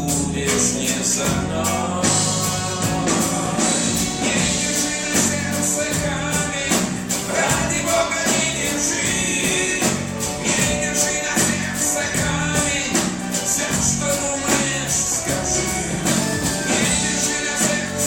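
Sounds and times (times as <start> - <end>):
live pop band playing: 0.0 - 18.0
person singing: 0.0 - 18.0.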